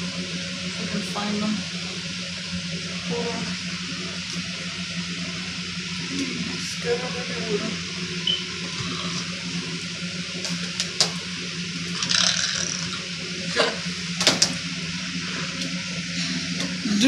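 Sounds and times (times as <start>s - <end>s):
box fan running: 0.0s - 17.0s.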